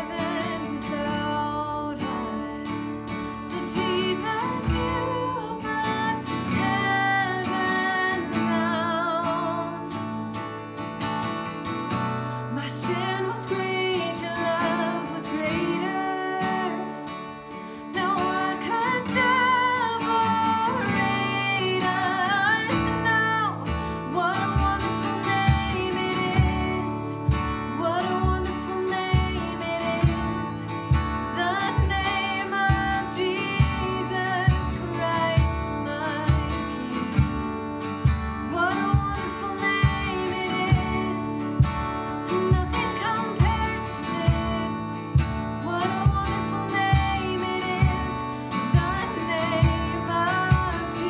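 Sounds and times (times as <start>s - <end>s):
person singing with vibrato: 0.0s - 10.2s, 12.3s - 51.0s
strummed acoustic guitar: 0.0s - 51.0s.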